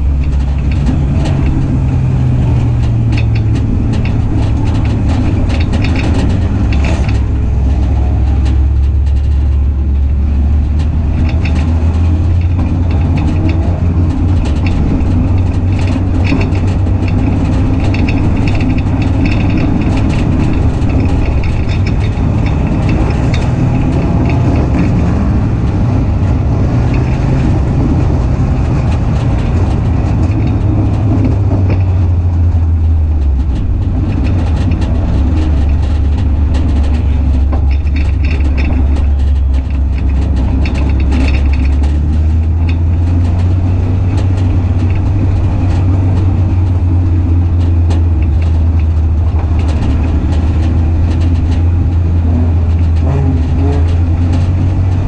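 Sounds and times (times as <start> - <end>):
knocks and rattles: 0.0 - 55.0
race car engine running: 0.0 - 55.0.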